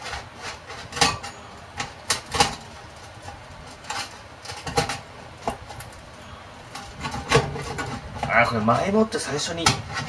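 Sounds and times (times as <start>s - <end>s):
pizza cutter rolling through crust: 0.0s - 10.0s.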